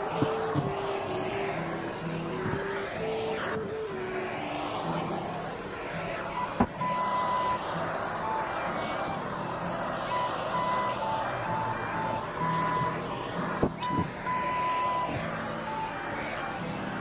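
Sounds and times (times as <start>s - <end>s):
blowtorch flame hissing: 0.0s - 17.0s
electronic background music: 0.0s - 17.0s.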